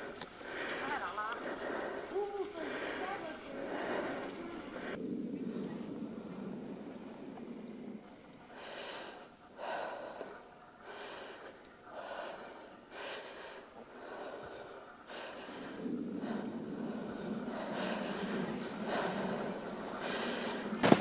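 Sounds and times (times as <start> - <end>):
person breathing heavily: 0.0 - 6.1, 8.4 - 21.0.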